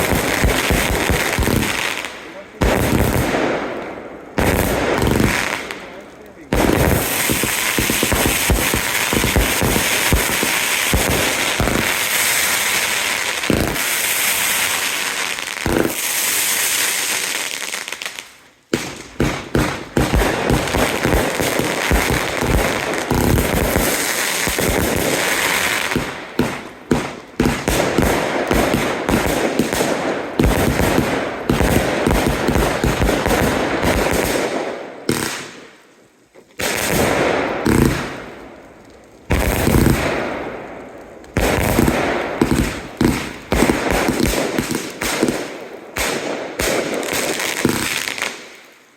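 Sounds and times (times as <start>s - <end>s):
fireworks bangs: 0.0s - 35.8s, 36.5s - 48.6s
fireworks crackling: 0.0s - 48.9s.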